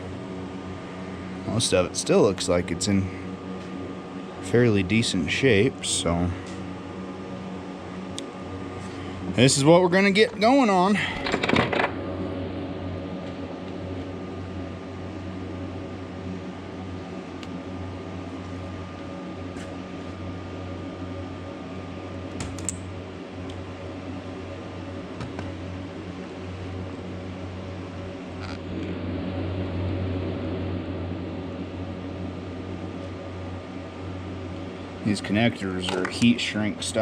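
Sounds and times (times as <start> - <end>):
fan humming: 0.0 - 37.0.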